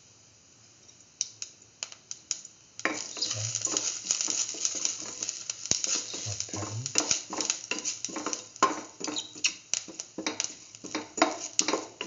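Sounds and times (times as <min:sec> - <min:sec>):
seeds sizzling in hot oil: 0:00.0 - 0:12.0
seeds popping in oil: 0:01.2 - 0:12.0.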